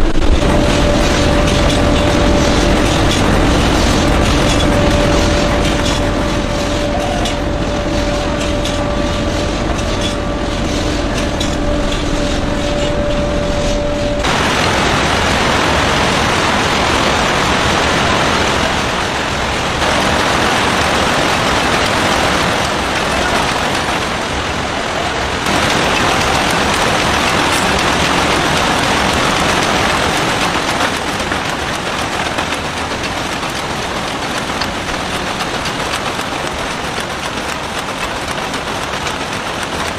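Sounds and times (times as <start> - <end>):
clatter of machines: 0.0 - 39.9
factory machinery hum and rattling: 0.0 - 39.9.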